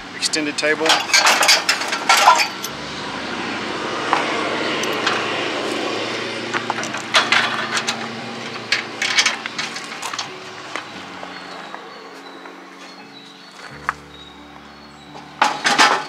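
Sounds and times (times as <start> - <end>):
steady rushing drone: 1.2 - 15.5.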